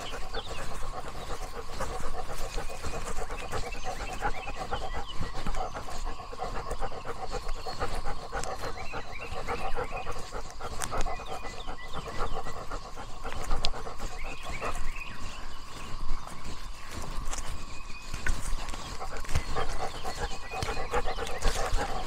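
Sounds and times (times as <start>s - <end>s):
dog panting: 0.0s - 22.0s.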